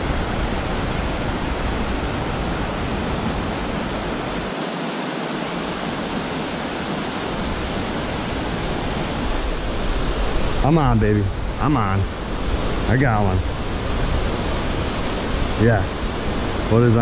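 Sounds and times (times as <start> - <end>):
river water pouring over a spillway: 0.0 - 17.0.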